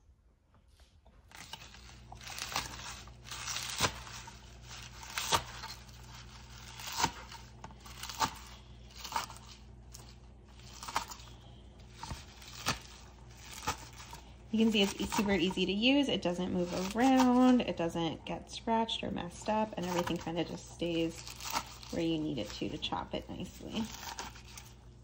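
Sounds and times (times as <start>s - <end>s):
leaves crunching and tearing: 1.3s - 17.7s, 19.5s - 24.9s.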